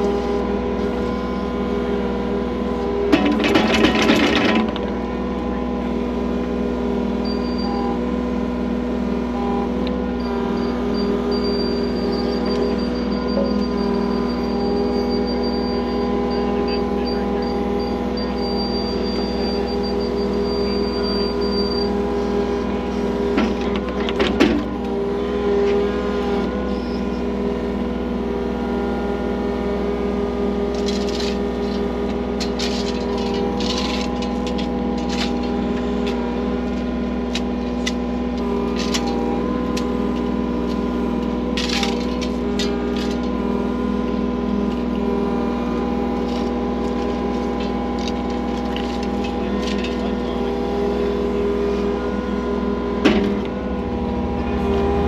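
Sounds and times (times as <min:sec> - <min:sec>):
loader engine running: 0:00.0 - 0:55.0.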